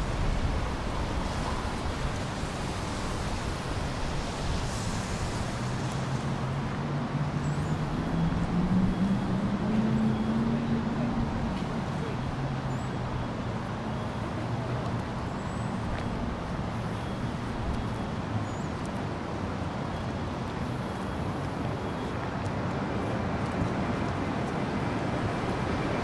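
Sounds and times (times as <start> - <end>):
road noise: 0.0 - 26.0
vehicles passing: 0.0 - 26.0.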